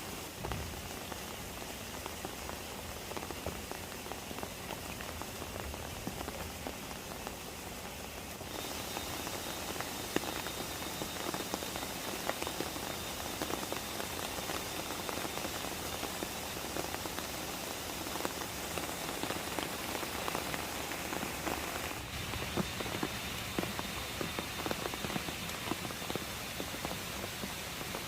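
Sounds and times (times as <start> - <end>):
rain falling on a surface: 0.0 - 28.0.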